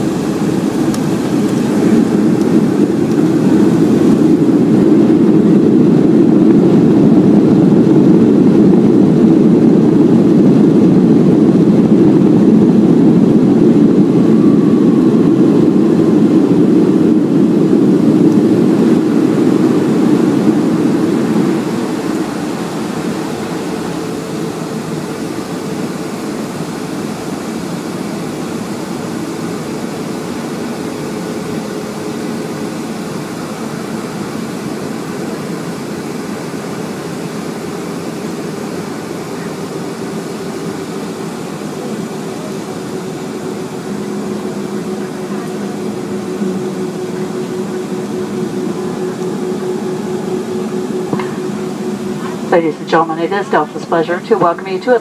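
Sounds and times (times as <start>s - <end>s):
air-conditioning hiss: 0.0s - 55.0s
jet engines idling: 0.0s - 55.0s.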